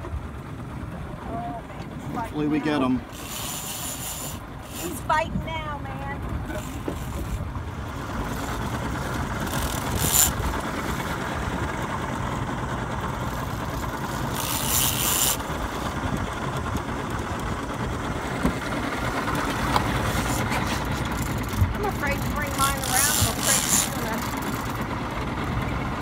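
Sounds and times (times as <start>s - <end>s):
outboard motor idling: 0.0s - 26.0s
water noise: 0.0s - 26.0s
wind: 0.0s - 26.0s.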